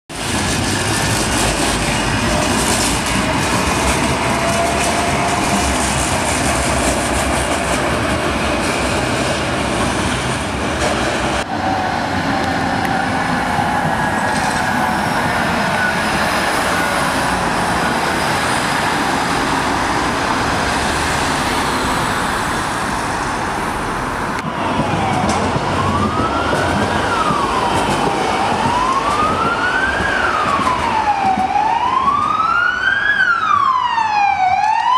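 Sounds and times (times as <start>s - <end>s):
tram wheels rumbling on rails: 0.1s - 33.0s
road traffic: 0.1s - 34.9s
emergency vehicle siren wailing: 1.8s - 7.1s, 11.4s - 34.9s.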